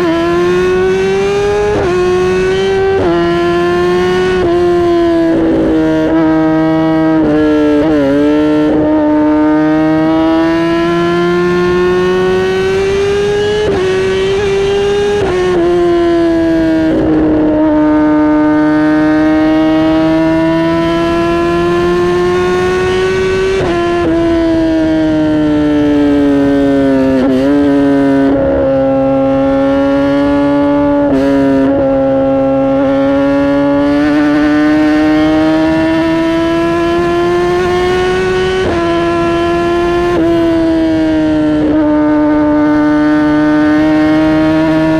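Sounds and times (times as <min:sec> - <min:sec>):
motorcycle engine and exhaust: 0:00.0 - 0:44.9.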